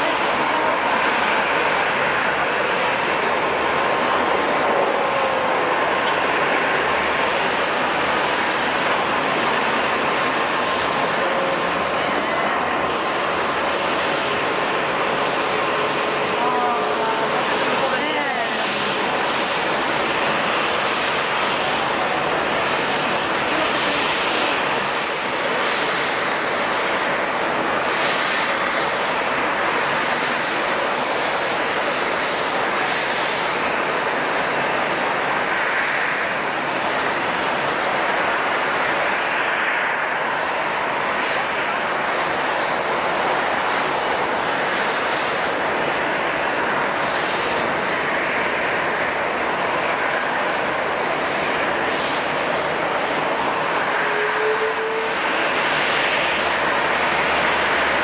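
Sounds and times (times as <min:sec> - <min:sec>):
jet engine roar with whine: 0:00.0 - 0:58.0.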